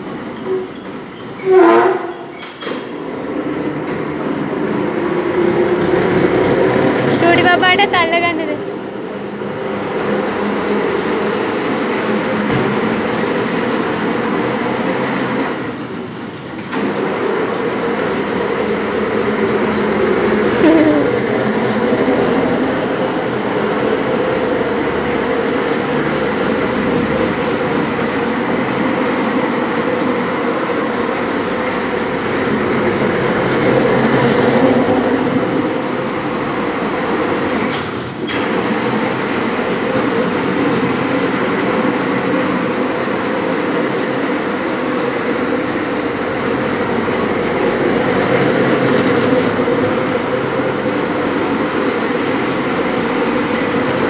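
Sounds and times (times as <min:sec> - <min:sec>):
bumper cars rumbling: 0:00.0 - 0:54.0.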